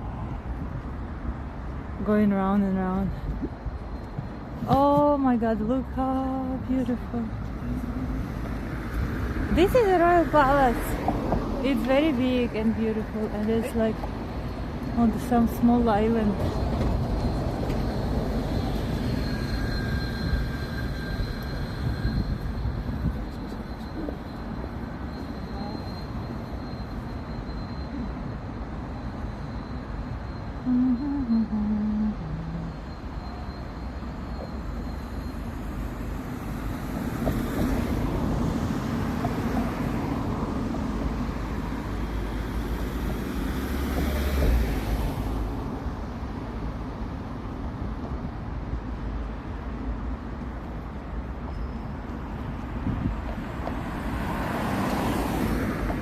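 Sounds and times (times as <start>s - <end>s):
street traffic noise: 0.0s - 56.0s.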